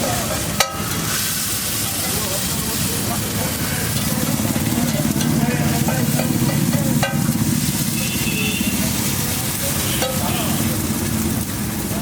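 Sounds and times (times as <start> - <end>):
metal utensils clinking on pan: 0.0 - 10.6
eggs sizzling in a pan: 0.0 - 12.0.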